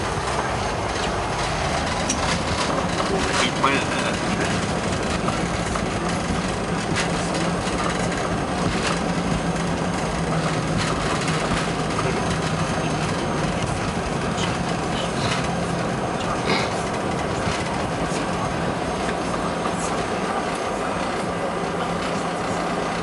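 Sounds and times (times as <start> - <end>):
knocks and rattles: 0.0 - 21.2
airplane cabin roar: 0.0 - 23.0.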